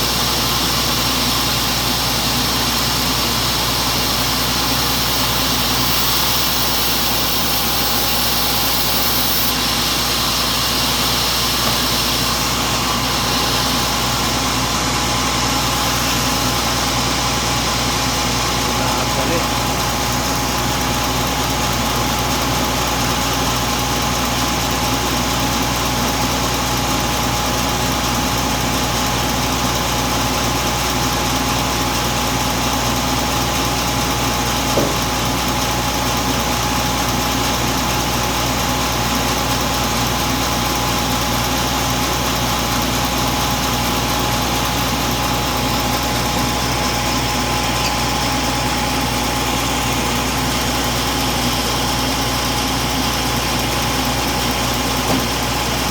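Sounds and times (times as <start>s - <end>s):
saw cutting through log: 0.0s - 55.9s.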